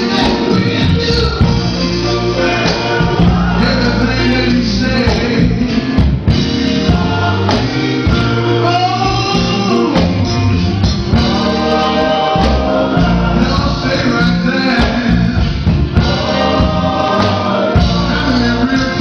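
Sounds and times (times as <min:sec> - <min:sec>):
bass keyboard and drums: 0:00.0 - 0:19.0
male group singing gospel: 0:00.0 - 0:19.0.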